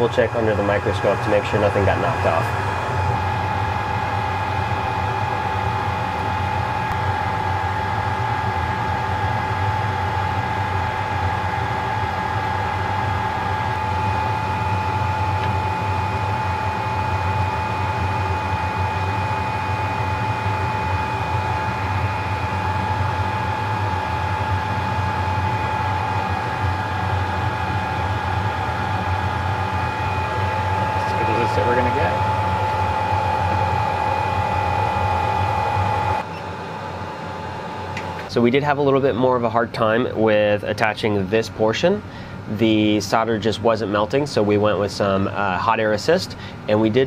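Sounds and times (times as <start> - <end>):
higher whine: 0.0 - 39.7
fan motor whirring: 0.0 - 47.0.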